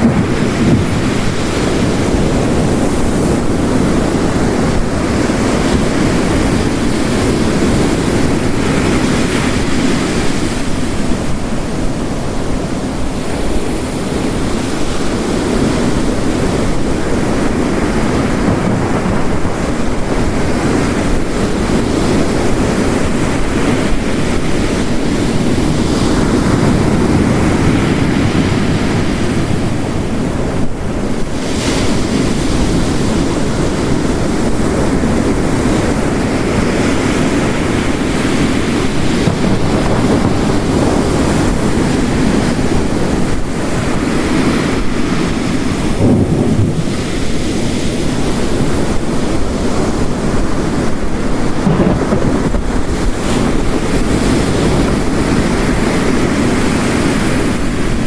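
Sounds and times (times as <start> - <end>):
heavy rain: 0.0 - 58.0
surf crashing on rocks: 0.0 - 58.0.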